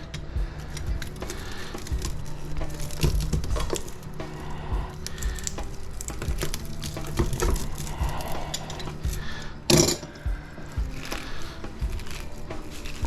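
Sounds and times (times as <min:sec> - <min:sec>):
scraping of copper windings: 0:00.0 - 0:13.0
steady low hum: 0:00.0 - 0:13.0.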